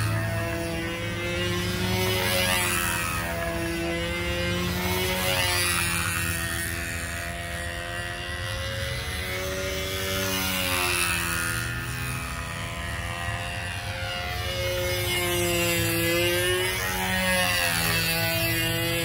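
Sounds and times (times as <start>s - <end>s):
model airplane engine: 0.0s - 19.0s.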